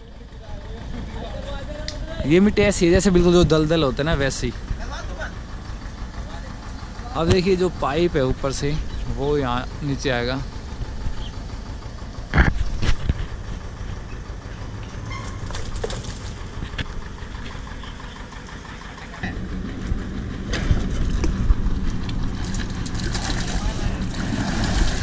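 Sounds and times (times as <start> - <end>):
drilling rig engine running: 0.0 - 25.0.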